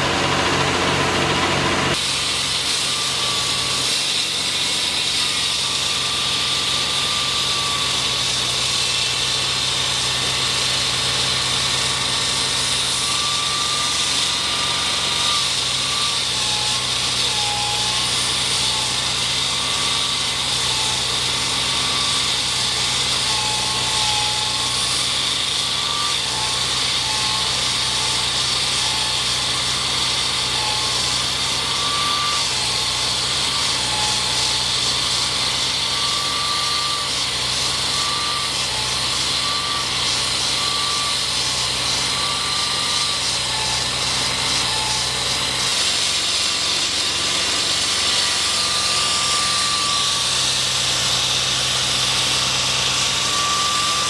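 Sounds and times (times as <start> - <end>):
construction machinery running: 0.0 - 54.0.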